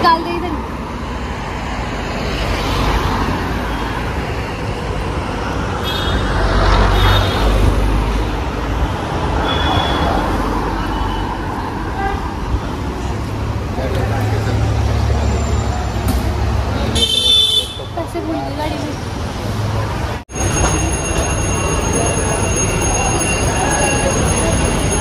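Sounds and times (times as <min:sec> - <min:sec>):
vehicles driving past: 0:00.0 - 0:25.0.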